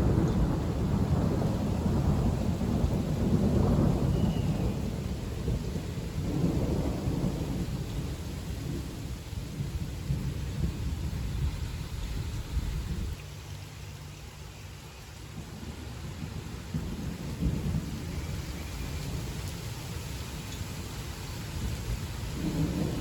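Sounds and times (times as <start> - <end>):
rolling thunder: 0.0 - 13.2, 15.4 - 19.8, 21.3 - 23.0
steady rain: 0.0 - 23.0.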